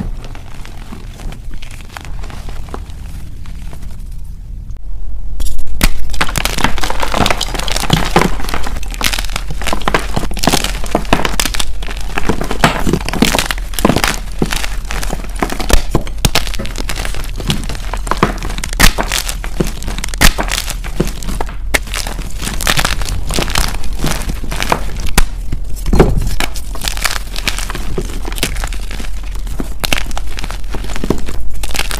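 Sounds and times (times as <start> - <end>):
chalk blocks cracking and crunching: 0.0 - 4.2, 5.4 - 31.9
chalk powder crumbling: 0.0 - 4.3, 5.8 - 31.9.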